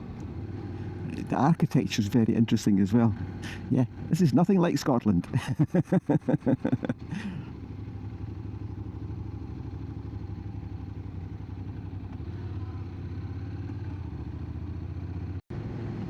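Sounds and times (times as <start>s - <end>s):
motorcycle engine running: 0.0s - 4.3s, 5.4s - 16.0s
road noise: 0.0s - 16.0s.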